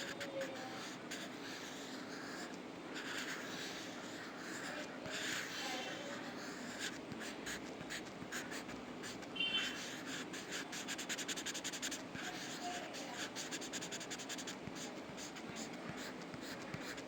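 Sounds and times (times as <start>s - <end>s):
pencil scratching on paper: 0.0s - 17.0s.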